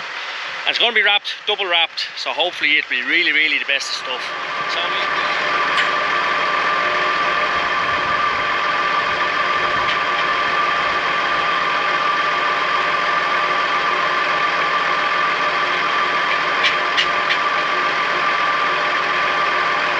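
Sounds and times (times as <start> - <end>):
steady high whine: 0.0 - 19.9
tractor engine running: 0.0 - 19.9.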